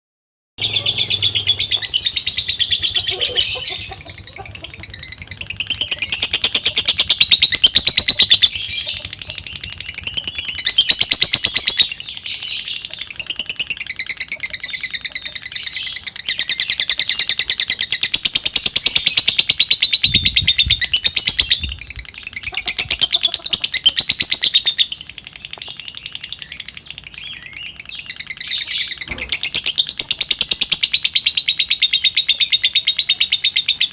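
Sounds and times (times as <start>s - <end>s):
lovebird chattering high chirps: 0.6s - 33.9s.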